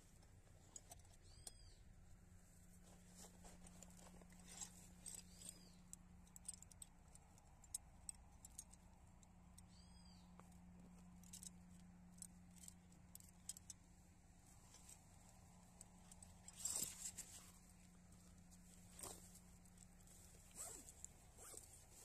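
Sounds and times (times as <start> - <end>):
faint small clicks and rustles: 0.0 - 22.0
low steady hum: 0.0 - 22.0.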